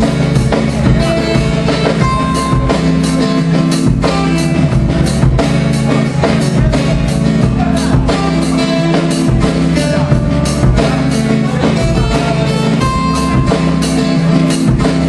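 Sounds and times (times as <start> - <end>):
acoustic guitar: 0.0 - 15.0
drum kit: 0.0 - 15.0.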